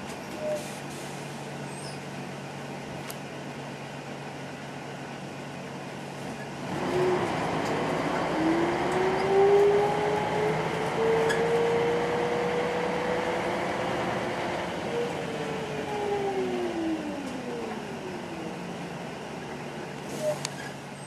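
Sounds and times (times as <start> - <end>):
bus diesel engine whine: 0.0 - 21.0.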